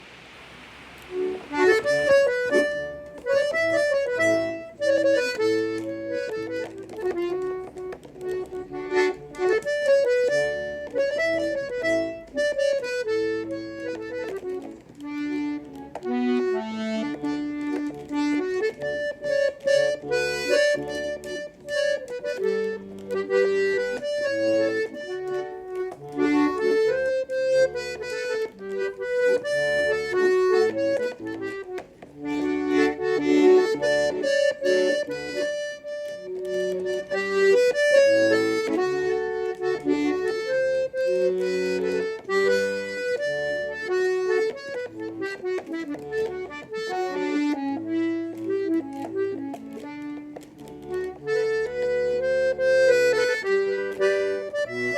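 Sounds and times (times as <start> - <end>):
accordion melody: 0.0 - 54.9.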